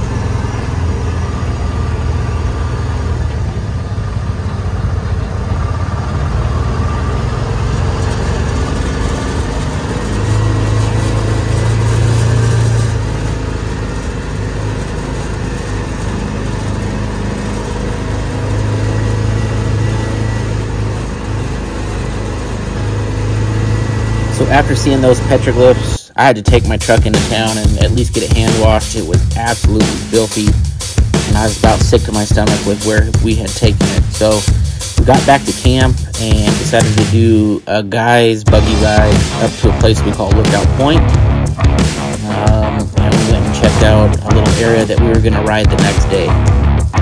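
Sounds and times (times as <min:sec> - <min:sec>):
utility vehicle engine running: 0:00.0 - 0:47.0.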